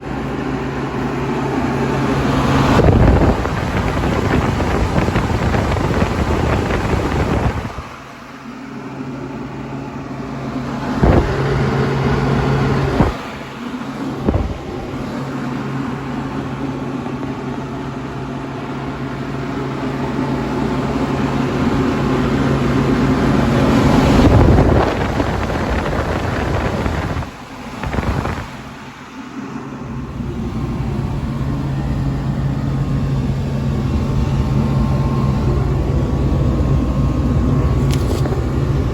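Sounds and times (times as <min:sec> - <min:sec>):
compressor hum: 0:00.0 - 0:38.9
condenser fan rushing: 0:00.0 - 0:38.9.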